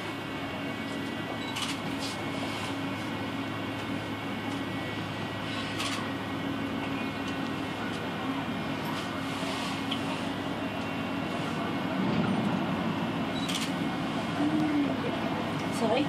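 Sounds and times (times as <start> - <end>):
cable car cabin hum: 0.0 - 16.0.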